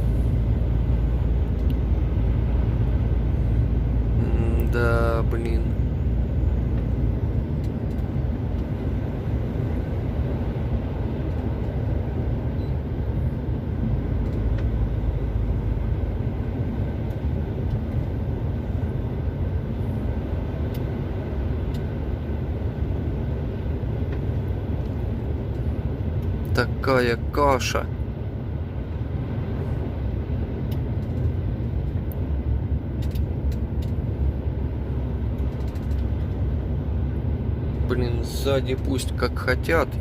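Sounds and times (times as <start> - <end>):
truck engine running: 0.0 - 40.0
tyre and road noise: 0.0 - 40.0.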